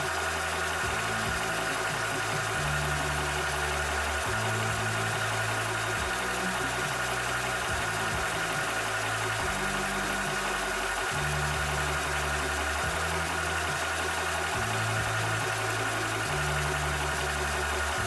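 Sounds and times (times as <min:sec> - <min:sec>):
air compressor humming: 0:00.0 - 0:18.0.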